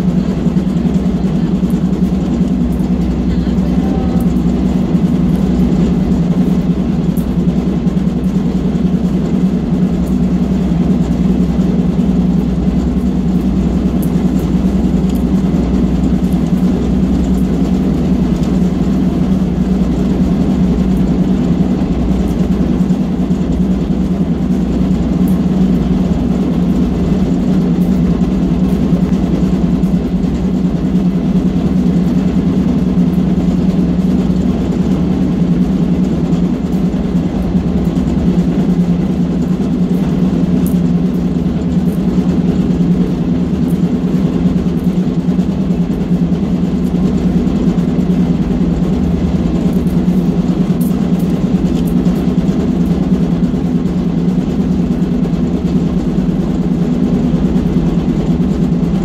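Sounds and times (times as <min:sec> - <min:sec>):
locomotive engine drone: 0:00.0 - 0:59.0.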